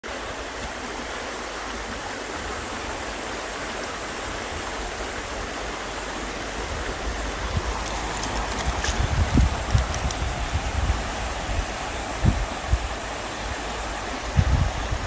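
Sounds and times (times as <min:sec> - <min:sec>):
river water rushing: 0:00.1 - 0:15.0.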